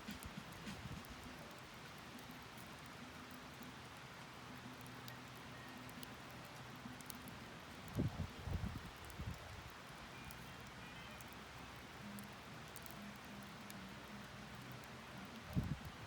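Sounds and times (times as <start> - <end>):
campfire crackling and popping: 0.0 - 16.0
soft steady hiss: 0.0 - 16.0.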